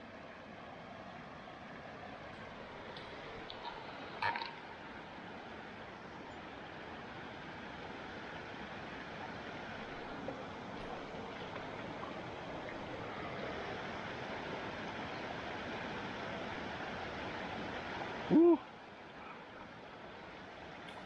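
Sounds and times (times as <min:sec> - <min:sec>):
stream rushing over rocks: 0:00.1 - 0:21.0.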